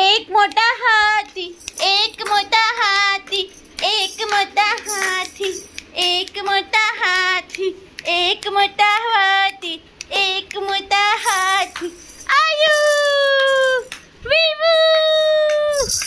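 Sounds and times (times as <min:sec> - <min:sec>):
high-pitched voice singing: 0:00.0 - 0:16.0.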